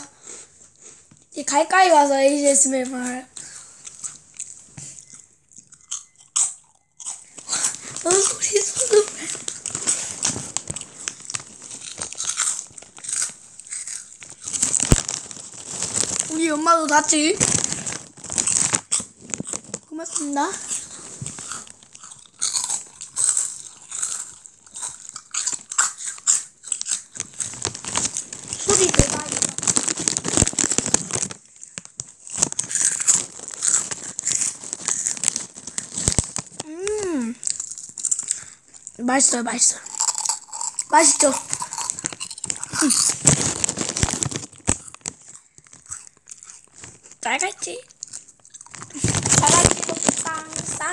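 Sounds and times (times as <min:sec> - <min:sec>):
plastic bag crinkling: 0:00.7 - 0:50.9
crunching snack being chewed: 0:02.4 - 0:50.9.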